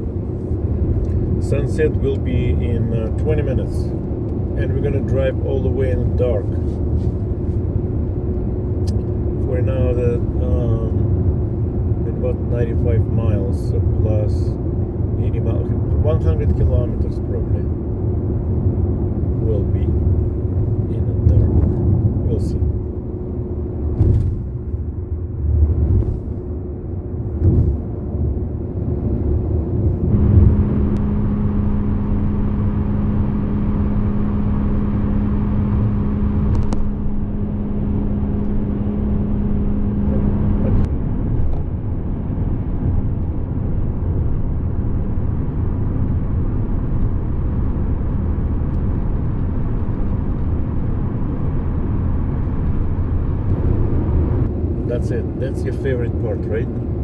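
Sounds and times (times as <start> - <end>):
car tyres and engine rumble: 0.0 - 57.0
steady low hum: 0.0 - 57.0.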